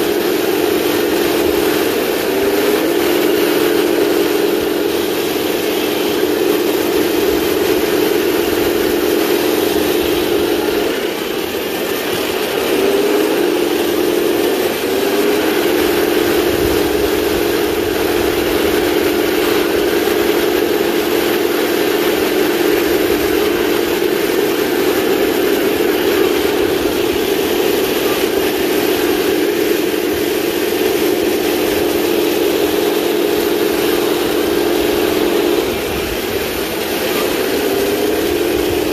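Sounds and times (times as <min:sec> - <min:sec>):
simulated tank engine drone: 0:00.0 - 0:38.9.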